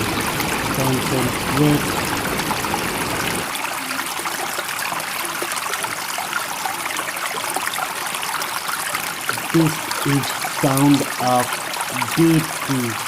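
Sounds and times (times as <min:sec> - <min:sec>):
running water with splashes: 0:00.0 - 0:13.0.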